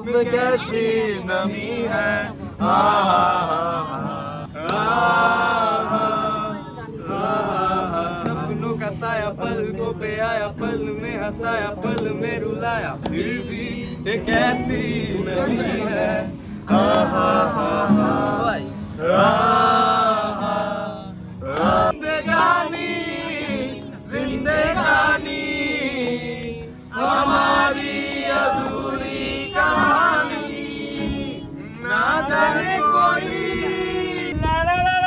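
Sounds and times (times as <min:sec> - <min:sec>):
group singing: 0:00.0 - 0:34.8
acoustic guitar strumming: 0:00.0 - 0:35.0.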